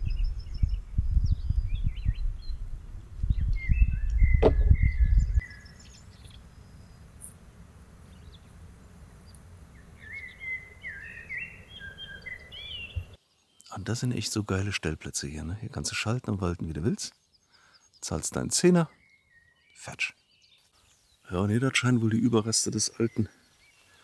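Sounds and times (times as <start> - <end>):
songbirds chirping and warbling: 0.0 - 24.0.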